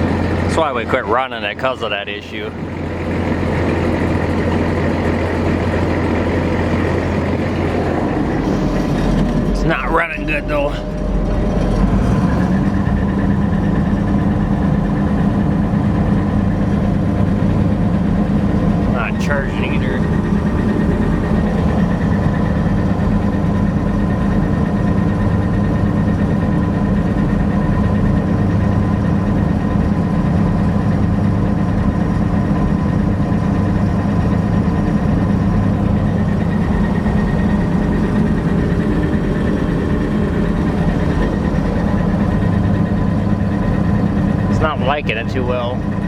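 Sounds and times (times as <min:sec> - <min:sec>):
diesel engine idling roughly: 0:00.0 - 0:46.0.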